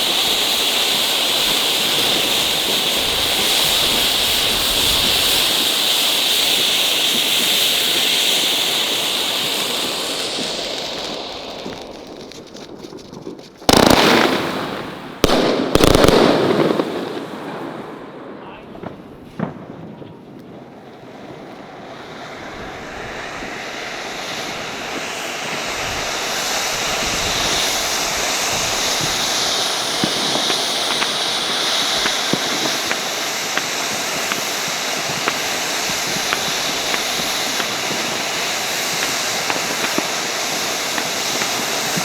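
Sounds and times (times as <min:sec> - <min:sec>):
fireworks hissing and crackling: 0:00.0 - 0:42.0
fireworks pops and bangs: 0:00.0 - 0:42.0.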